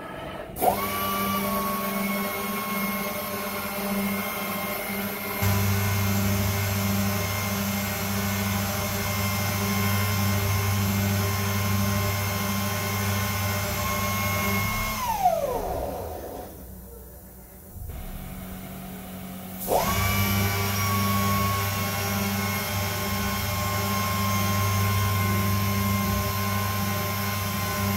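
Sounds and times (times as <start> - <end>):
high-speed spindle whine: 0.0 - 27.9.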